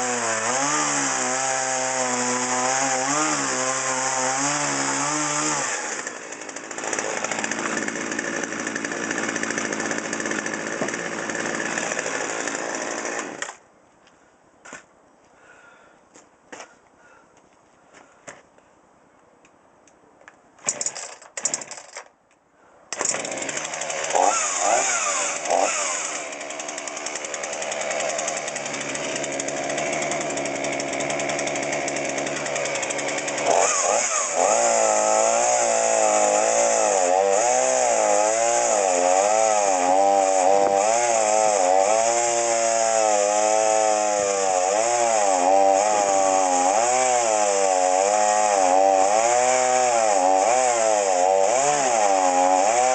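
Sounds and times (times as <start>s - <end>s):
chainsaw starting and running: 0.0s - 13.6s, 20.6s - 22.1s, 22.9s - 52.9s.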